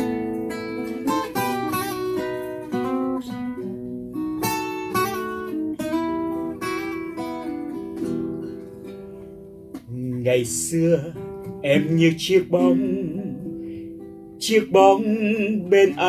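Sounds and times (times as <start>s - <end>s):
acoustic guitars playing: 0.0s - 16.0s.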